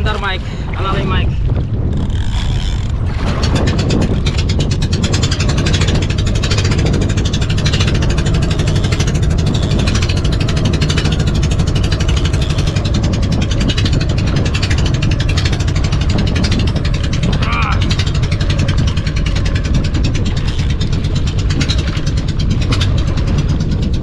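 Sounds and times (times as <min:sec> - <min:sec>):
boat engine drone: 0:00.0 - 0:24.0
rapid mechanical clicking: 0:01.8 - 0:24.0.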